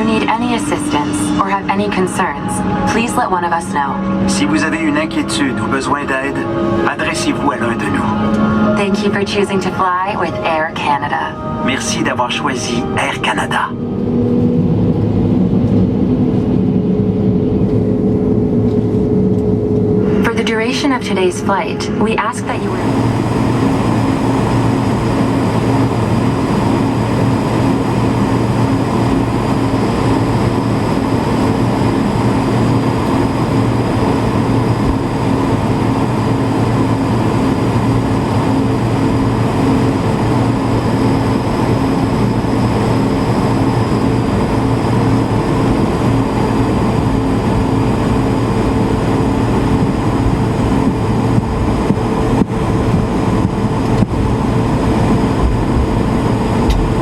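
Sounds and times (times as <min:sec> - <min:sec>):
jet engines heard from cabin: 0:00.0 - 0:57.0.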